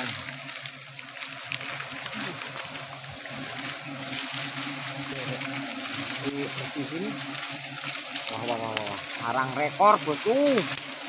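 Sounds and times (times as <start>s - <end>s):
bees humming: 0.0s - 11.0s
leaves and twigs crackling: 0.0s - 11.0s
steady hiss: 0.0s - 11.0s.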